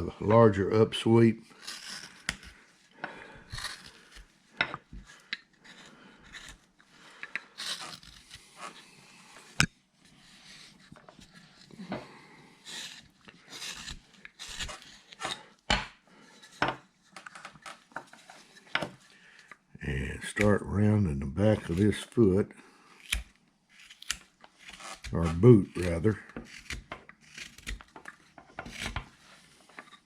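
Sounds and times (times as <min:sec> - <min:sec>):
knife scraping wood: 0:01.4 - 0:15.6, 0:16.2 - 0:19.4, 0:21.4 - 0:30.0.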